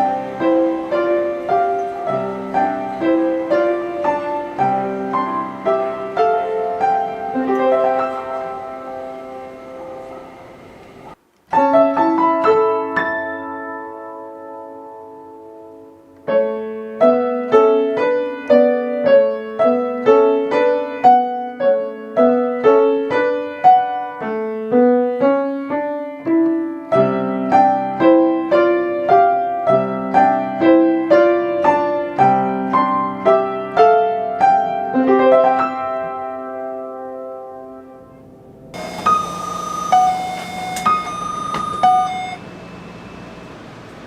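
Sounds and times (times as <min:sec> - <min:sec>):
piano low chords: 0:00.0 - 0:44.0
piano melody: 0:00.0 - 0:44.0.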